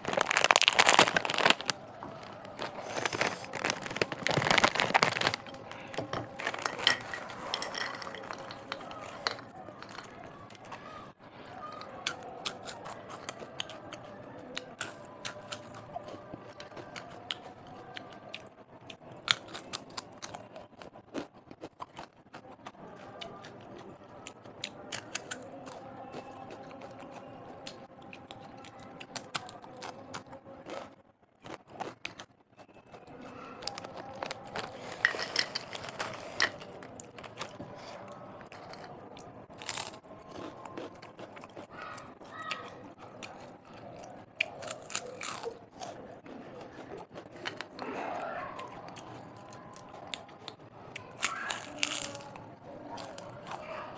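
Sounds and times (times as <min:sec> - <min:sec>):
crunching and chewing snack food: 0:00.0 - 0:53.9.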